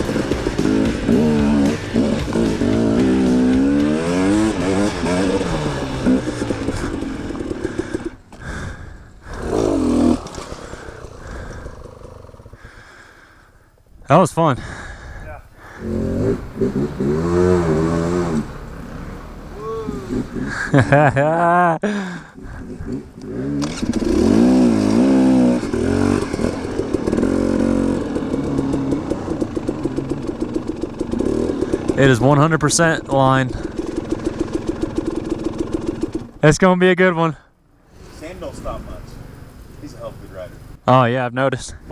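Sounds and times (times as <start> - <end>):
dirt bike engine revving: 0.0 - 13.6, 14.6 - 40.9.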